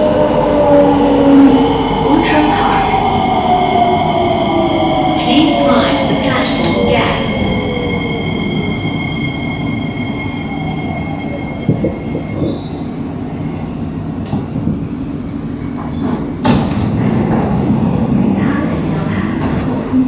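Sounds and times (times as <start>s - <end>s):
high steady train whine: 0.0s - 20.0s
train wheels rumbling on track: 0.0s - 20.0s.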